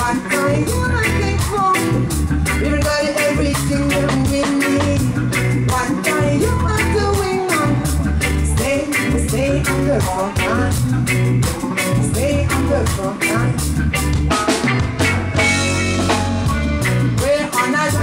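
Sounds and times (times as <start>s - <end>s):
woman singing: 0.0s - 13.7s, 17.0s - 18.0s
live reggae band playing: 0.0s - 18.0s.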